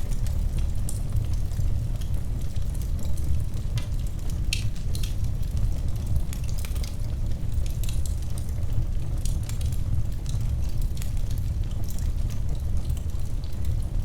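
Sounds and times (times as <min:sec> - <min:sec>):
low rumble of flame: 0:00.0 - 0:14.0
wood fire crackling and popping: 0:00.0 - 0:14.0.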